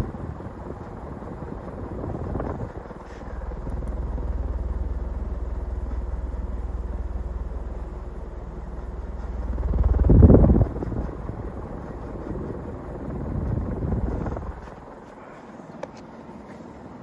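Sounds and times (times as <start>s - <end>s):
ceiling fan running: 0.0s - 17.0s.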